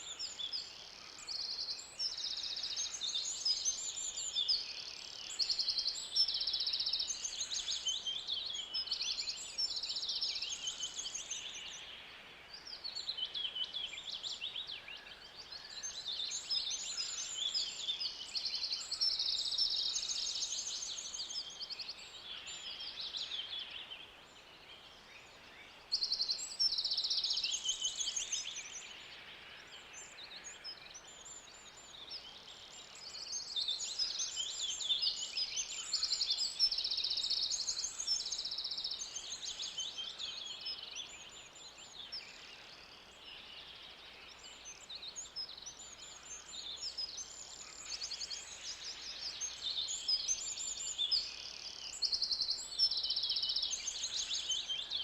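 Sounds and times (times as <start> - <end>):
birds singing and chirping: 0.0 - 55.0
faint background hiss: 0.0 - 55.0.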